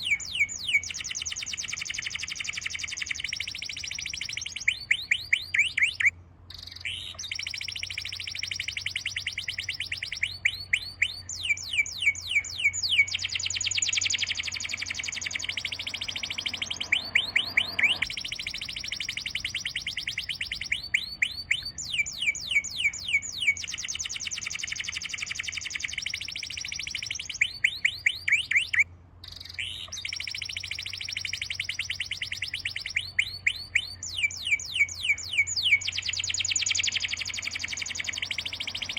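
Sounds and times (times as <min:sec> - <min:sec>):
songbird trilling: 0:00.0 - 0:38.9.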